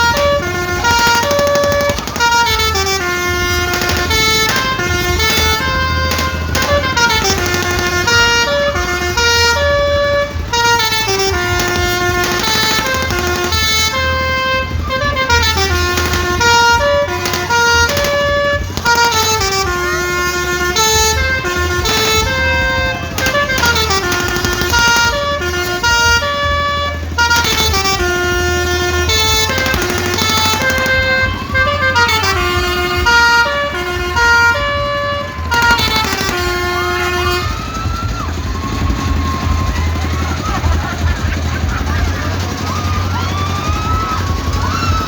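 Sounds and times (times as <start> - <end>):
horns playing stepped melodies: 0.0 - 45.0
low steady rumble: 0.0 - 45.0.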